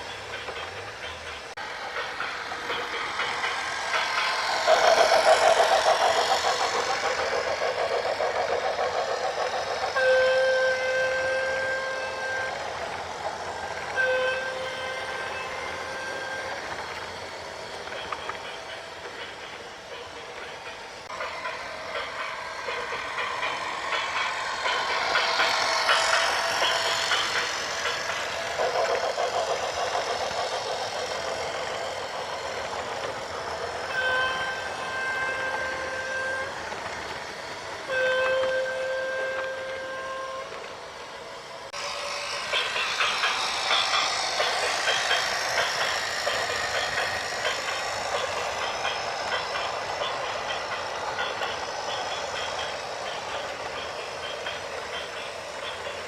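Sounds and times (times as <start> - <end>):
machinery noise: 0.0 - 56.0.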